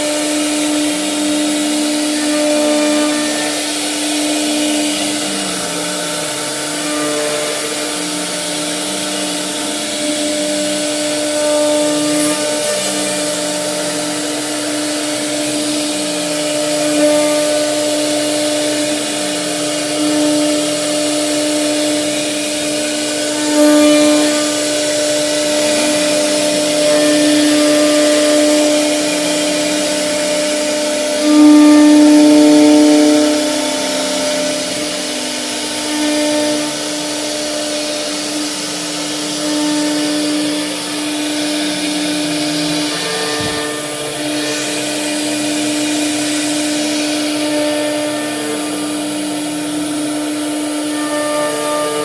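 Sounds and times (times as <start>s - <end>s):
stepper motors changing pitch: 0.0s - 52.0s
wood router spindle whine: 0.0s - 52.0s.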